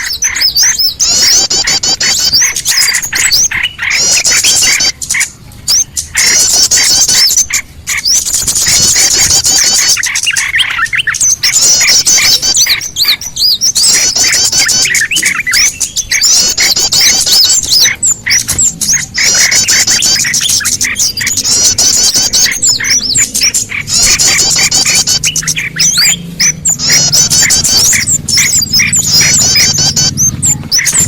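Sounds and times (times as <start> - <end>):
small birds calling: 0.0 - 31.0.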